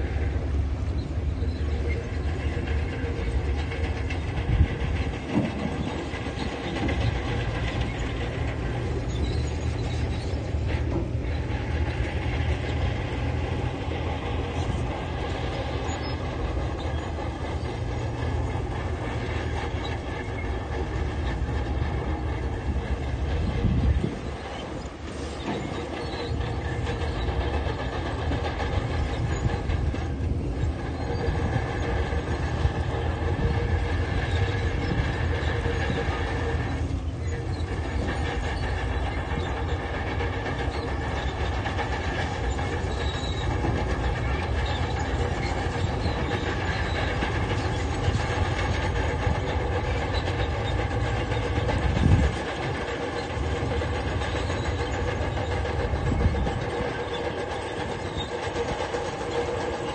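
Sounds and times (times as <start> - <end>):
bulldozer diesel engine running: 0.0 - 59.9
steel tracks clanking: 0.0 - 59.9.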